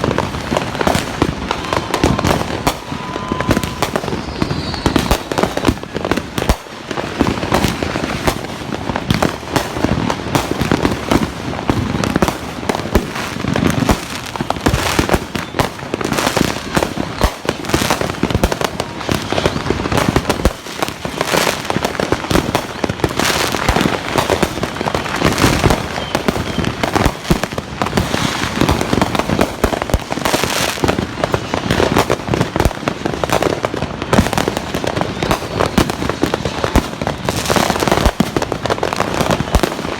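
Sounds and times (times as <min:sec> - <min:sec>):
fireworks and firecrackers bangs: 0:00.0 - 0:39.9.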